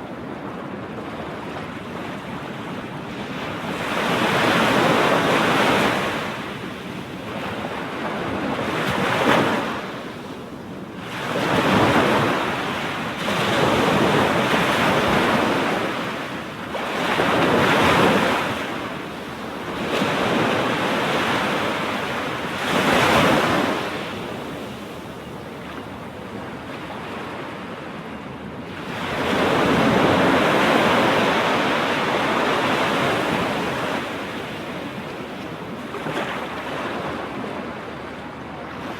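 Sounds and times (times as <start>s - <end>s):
ocean waves breaking on beach: 0.1s - 38.9s.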